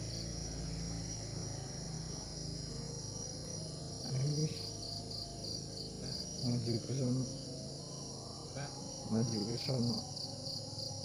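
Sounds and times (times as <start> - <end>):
crickets chirping: 0.0 - 11.0
high insect trill: 0.0 - 11.0.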